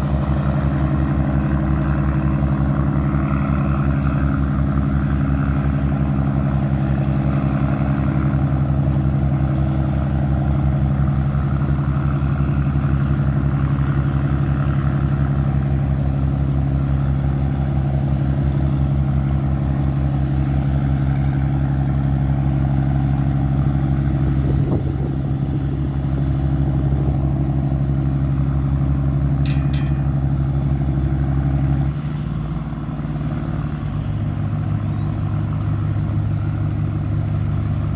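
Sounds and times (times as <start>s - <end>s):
diesel engine humming: 0.0s - 37.9s.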